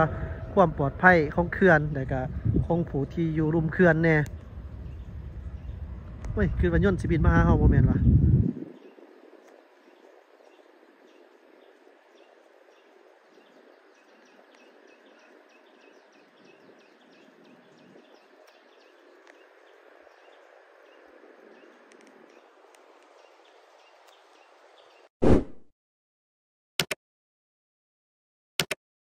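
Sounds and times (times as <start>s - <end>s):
steady low hiss: 0.0s - 25.0s.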